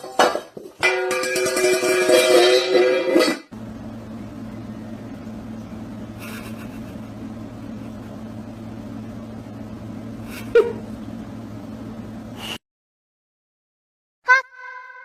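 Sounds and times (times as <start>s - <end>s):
steady low hum: 0.1s - 12.6s.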